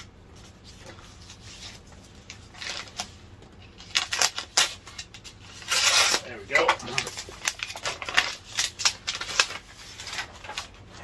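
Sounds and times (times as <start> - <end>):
envelope rustling: 0.4 - 11.0.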